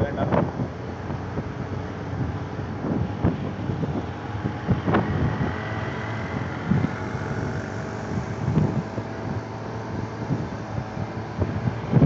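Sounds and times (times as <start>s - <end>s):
wind buffeting microphone: 0.0s - 12.0s
motorcycle engine: 0.1s - 12.0s.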